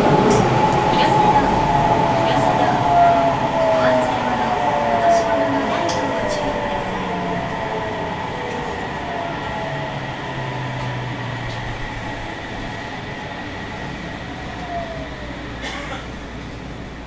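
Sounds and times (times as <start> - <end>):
train motor whine: 0.0 - 17.0
train running noise in tunnel: 0.0 - 17.0.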